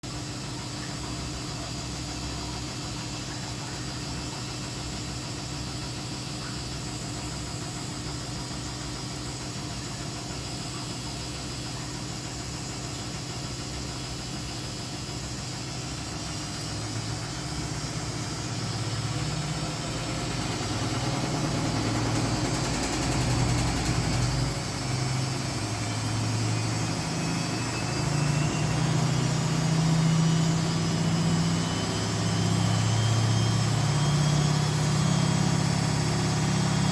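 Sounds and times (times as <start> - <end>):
washing machine motor hum: 0.0 - 36.9.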